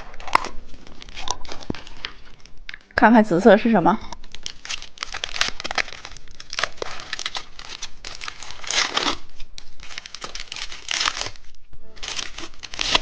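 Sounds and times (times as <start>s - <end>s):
candy wrapper crinkling: 0.0s - 3.0s, 4.0s - 13.0s.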